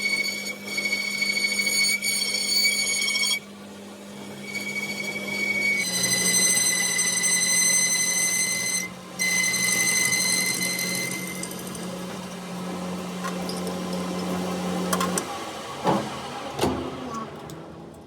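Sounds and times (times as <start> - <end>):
power tool motor whine and hum: 0.0 - 17.5.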